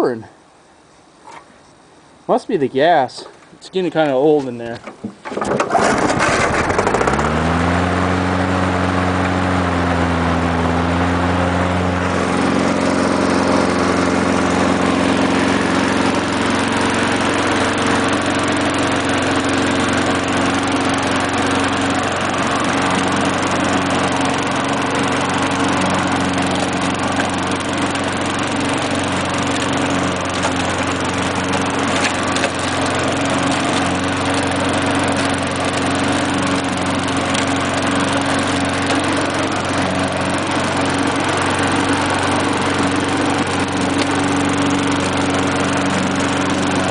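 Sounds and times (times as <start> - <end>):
lawn mower engine running: 2.9 - 46.9.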